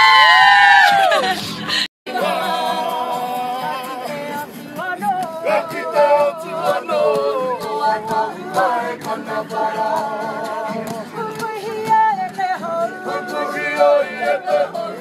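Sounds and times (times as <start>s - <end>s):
group singing unaccompanied: 2.1s - 15.0s.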